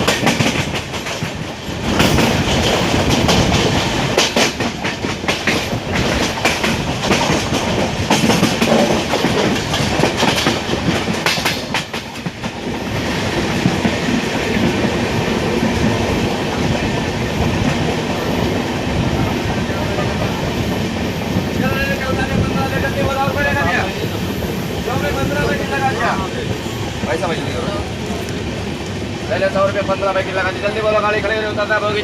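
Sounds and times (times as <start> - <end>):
train wheels clicking on rails: 0.0 - 32.0.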